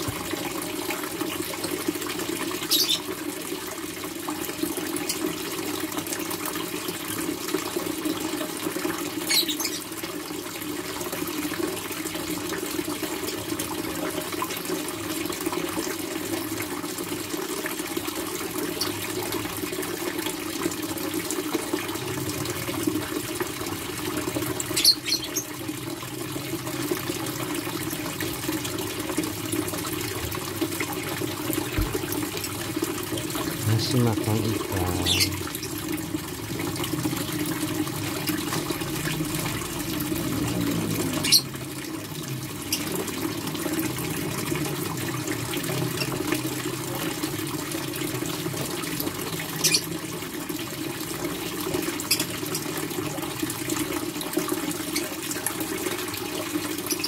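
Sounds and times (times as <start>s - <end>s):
water splashing and bubbling: 0.0s - 57.0s.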